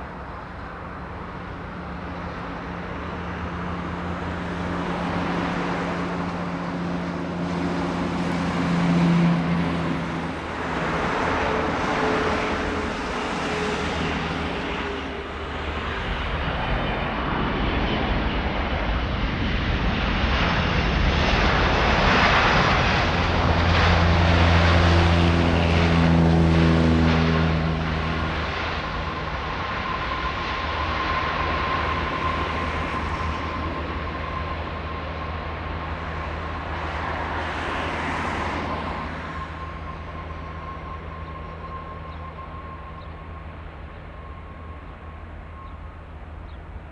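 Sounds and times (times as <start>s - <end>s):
jet engines roaring past: 0.0s - 46.9s.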